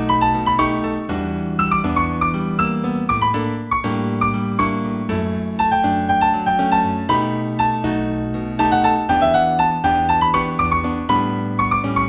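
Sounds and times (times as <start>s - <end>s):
new-age piano piece: 0.0s - 12.0s.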